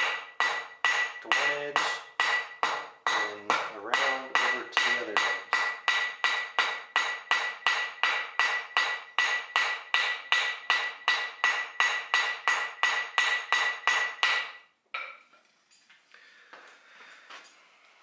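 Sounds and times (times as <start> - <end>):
hammer striking hot steel on anvil: 0.0 - 15.2.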